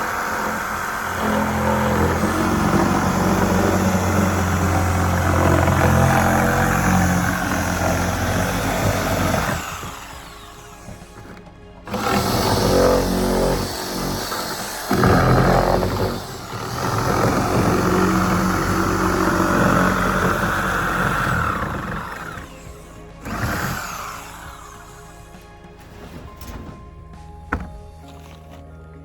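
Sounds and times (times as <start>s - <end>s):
electric power tool cutting: 0.0s - 26.0s
background music: 0.0s - 29.0s.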